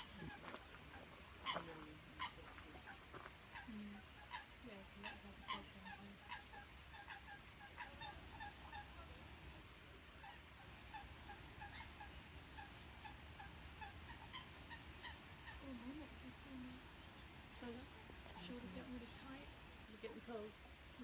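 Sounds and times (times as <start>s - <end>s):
flock of birds calling: 0.0s - 21.0s.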